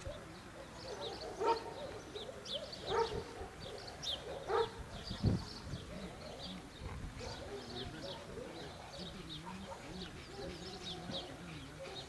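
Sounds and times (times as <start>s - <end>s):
dog barking: 0.0s - 4.9s, 5.9s - 12.0s
small birds chirping: 0.0s - 12.0s.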